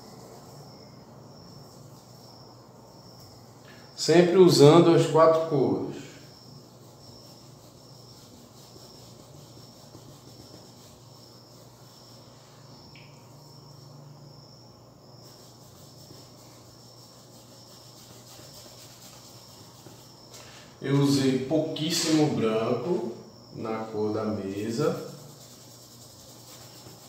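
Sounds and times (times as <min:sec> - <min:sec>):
insect chirping: 0:00.0 - 0:27.0
low steady hum: 0:00.0 - 0:27.0.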